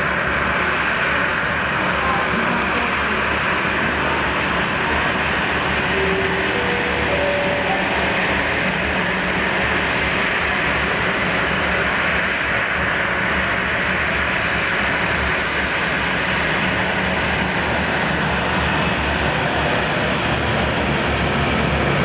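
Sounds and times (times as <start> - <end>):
jet engines at taxi power: 0.0 - 22.0.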